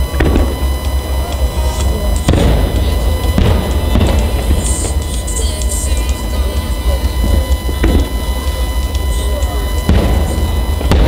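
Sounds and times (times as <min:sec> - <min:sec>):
deep rumble: 0:00.0 - 0:11.0
fireworks booming: 0:00.0 - 0:11.0
loud music: 0:00.0 - 0:11.0.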